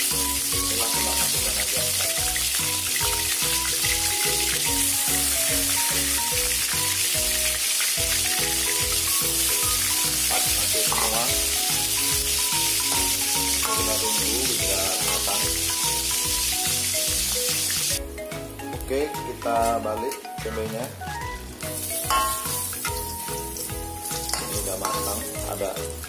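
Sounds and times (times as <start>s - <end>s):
food sizzling in hot oil: 0.0s - 20.0s, 20.9s - 26.0s
background music with beat: 0.0s - 26.0s.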